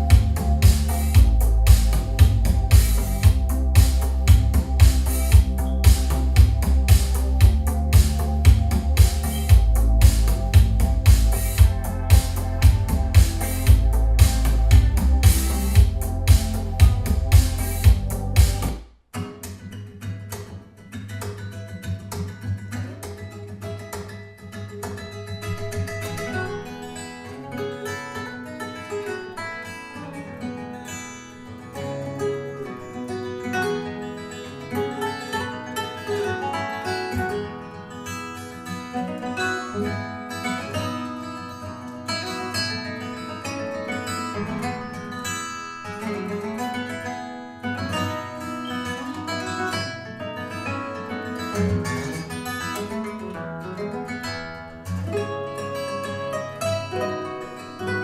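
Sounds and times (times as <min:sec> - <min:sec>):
plucked guitar instrumental music: 0:00.0 - 0:58.0.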